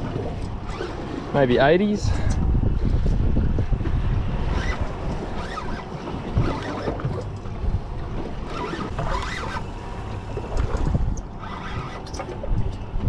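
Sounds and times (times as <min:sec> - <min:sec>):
water slapping against hull: 0:00.0 - 0:01.4, 0:02.3 - 0:13.0
wind buffeting microphone: 0:00.0 - 0:13.0.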